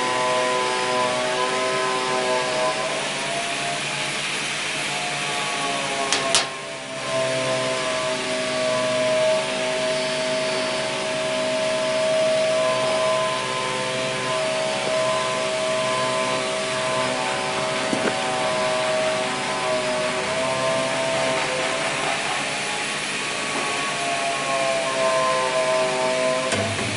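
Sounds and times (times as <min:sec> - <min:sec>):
machinery humming and whining: 0:00.0 - 0:26.9.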